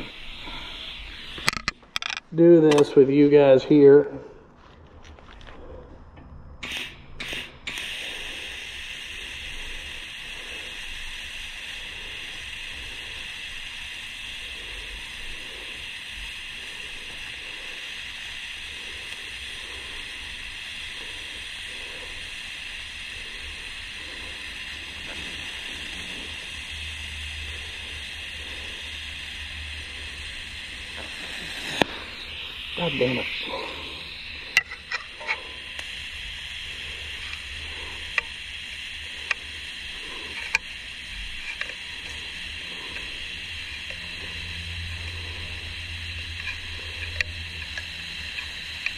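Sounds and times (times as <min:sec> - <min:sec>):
welding arc hissing: 0:00.0 - 0:04.2, 0:06.6 - 0:48.9.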